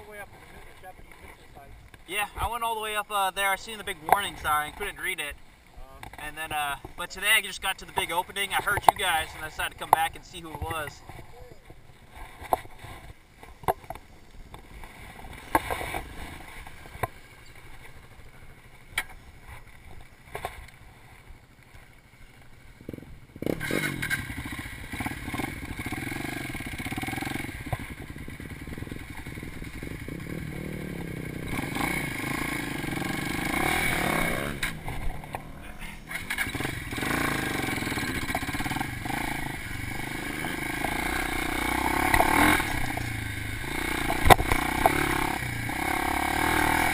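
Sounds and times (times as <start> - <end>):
dirt bike engine: 0.0 - 46.9.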